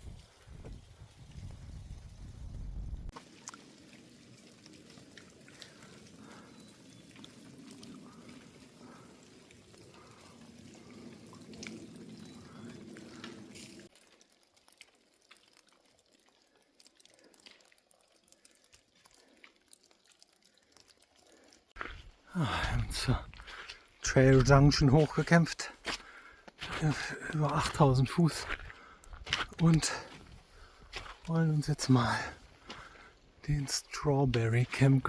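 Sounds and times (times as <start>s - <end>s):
water trickling and dripping: 3.1s - 35.0s.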